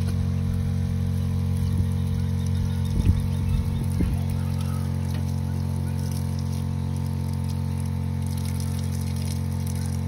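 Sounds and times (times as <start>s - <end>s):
electric water pump humming: 0.0s - 10.0s
shower water spraying and splashing: 0.0s - 10.0s.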